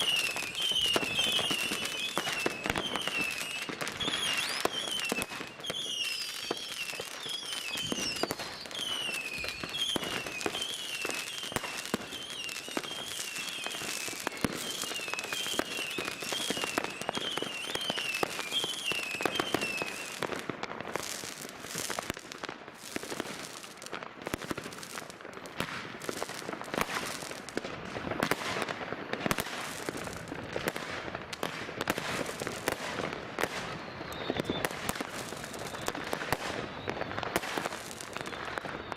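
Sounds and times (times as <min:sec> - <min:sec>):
firecracker bangs and crackling: 0:00.0 - 0:38.9.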